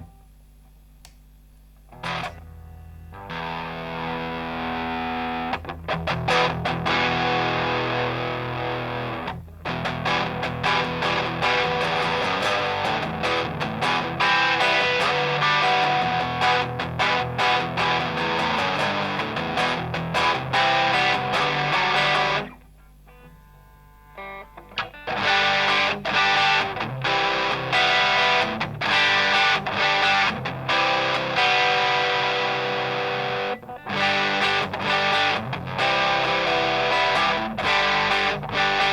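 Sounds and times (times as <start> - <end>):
distorted electric guitar: 1.8 - 38.9.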